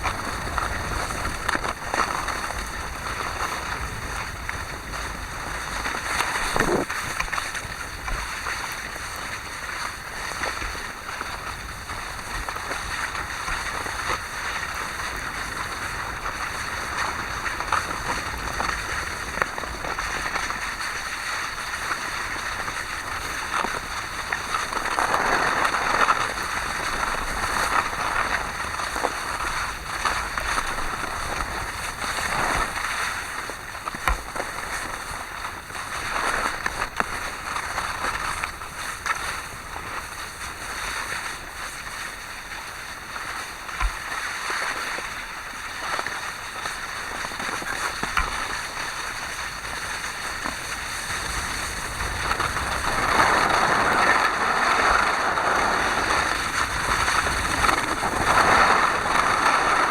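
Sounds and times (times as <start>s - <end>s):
skis sliding over snow: 0.0s - 59.9s
wind on microphone: 0.0s - 59.9s.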